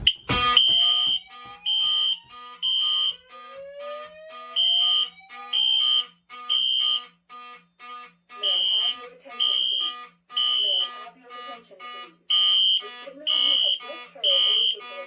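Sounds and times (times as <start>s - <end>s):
fire alarm horn beeps: 0.0s - 15.0s
steady pulsing horn: 0.0s - 15.0s.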